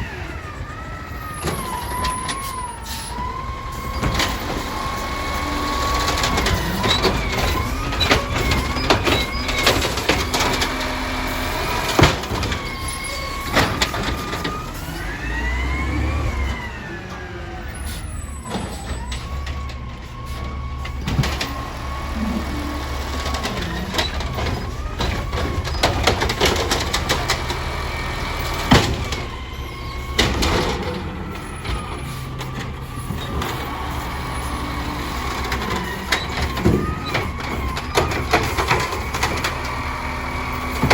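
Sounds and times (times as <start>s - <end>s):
garbage truck engine rumble: 0.0s - 40.9s
hydraulic whine: 0.0s - 40.9s
metal clanks and bangs: 1.4s - 15.0s, 17.8s - 40.9s.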